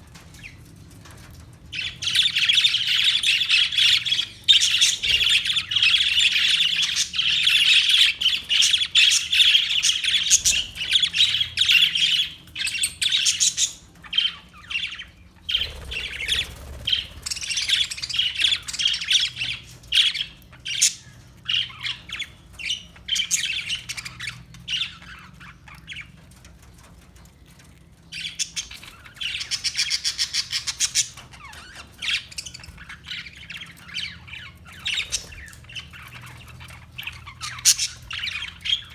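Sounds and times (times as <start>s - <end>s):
parakeets chirping and squawking: 0.1s - 38.9s.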